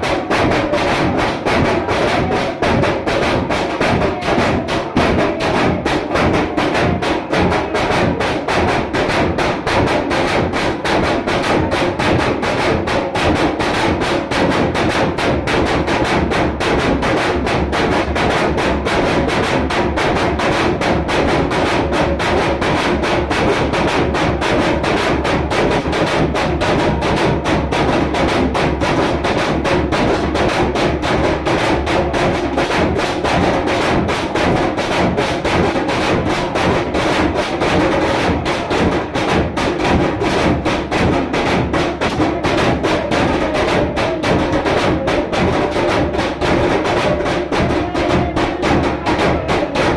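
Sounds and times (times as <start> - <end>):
music with rapid drum beat: 0.0 - 49.9.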